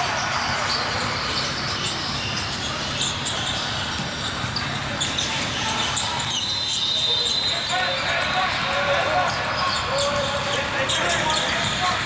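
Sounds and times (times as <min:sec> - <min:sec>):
din of players and spectators: 0:00.0 - 0:12.0.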